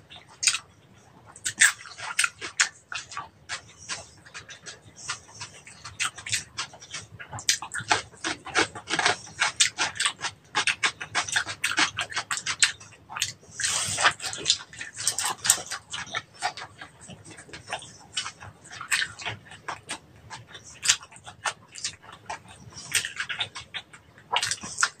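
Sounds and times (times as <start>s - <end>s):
crunching crispy food: 0.1s - 25.0s.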